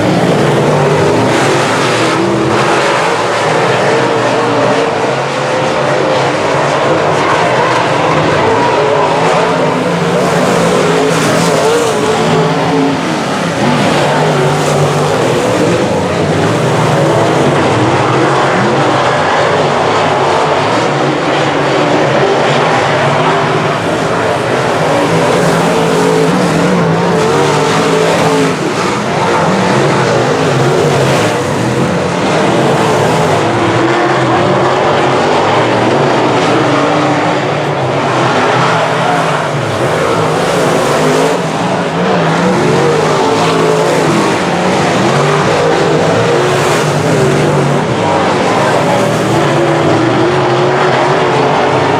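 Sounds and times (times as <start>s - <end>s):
racing car engines: 0.0s - 51.9s.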